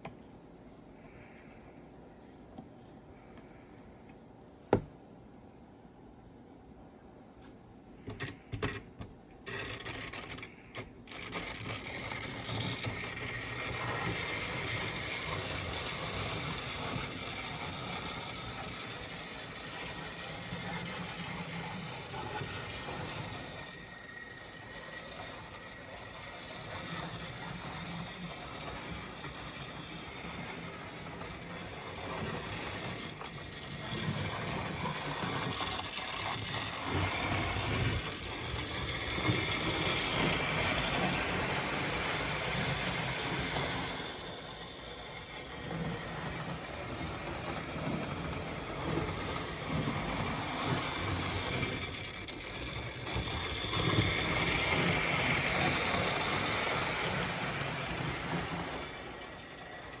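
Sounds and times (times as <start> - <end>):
model train motor whirring: 8.1 - 60.0
wheels rattling on rails: 11.1 - 60.0.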